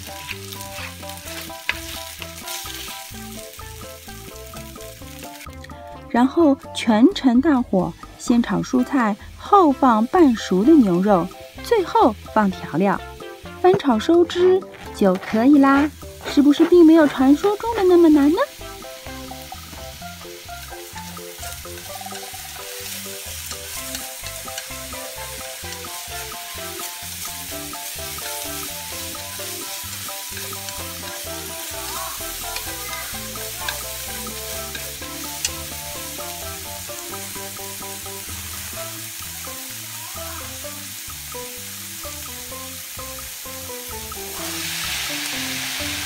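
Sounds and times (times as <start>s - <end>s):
onion sizzling in a pan: 0.0s - 46.0s.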